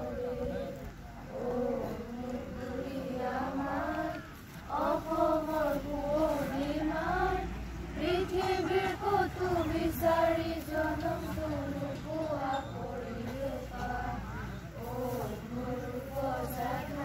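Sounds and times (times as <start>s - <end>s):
girls singing in unison: 0.0s - 17.0s.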